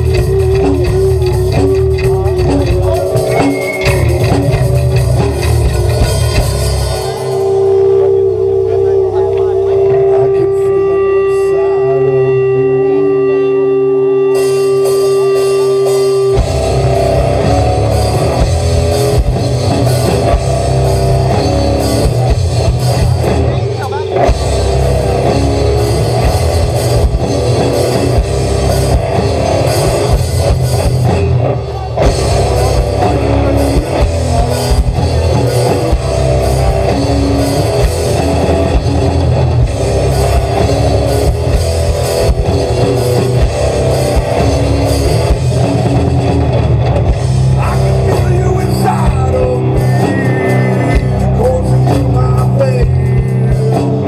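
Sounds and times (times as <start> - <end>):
drum kit: 0.0 - 11.3, 14.1 - 54.0
bass guitar: 0.0 - 54.0
electric guitar: 0.0 - 54.0.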